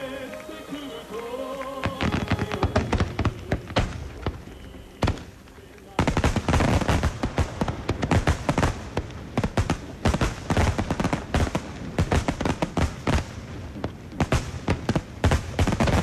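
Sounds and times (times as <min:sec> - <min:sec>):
fireworks shells bursting: 0:00.0 - 0:16.0.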